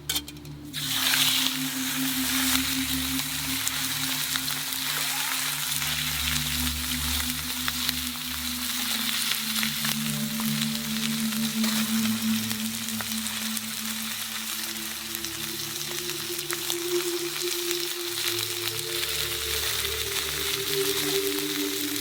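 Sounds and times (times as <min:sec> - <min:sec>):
soft background music: 0:00.0 - 0:22.0
food sizzling in a pan: 0:00.7 - 0:22.0.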